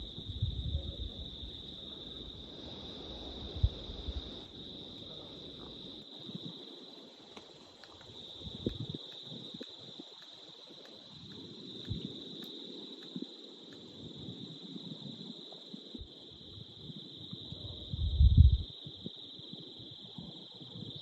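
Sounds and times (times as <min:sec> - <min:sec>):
crickets chirping: 0:00.0 - 0:21.0
low crackles: 0:01.8 - 0:21.0.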